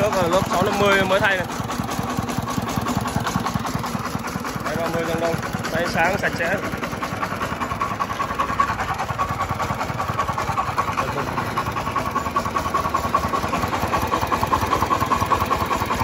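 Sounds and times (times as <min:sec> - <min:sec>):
diesel engine fast putter: 0:00.0 - 0:16.0.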